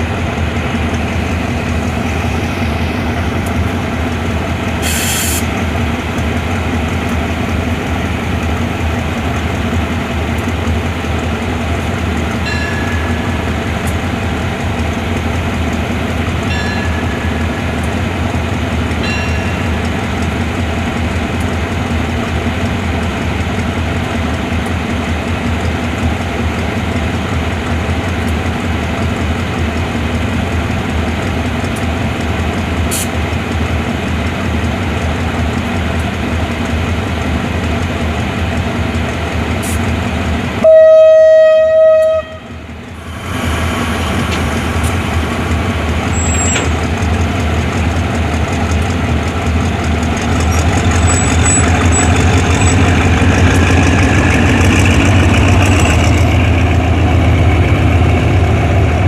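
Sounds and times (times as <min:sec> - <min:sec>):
locomotive engine hum: 0:00.0 - 0:59.0.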